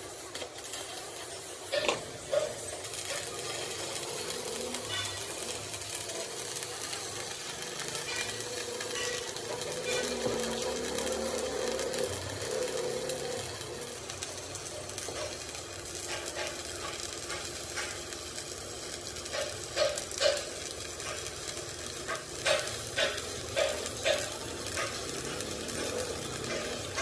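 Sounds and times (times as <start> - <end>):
sizzling hiss: 0.0 - 27.0.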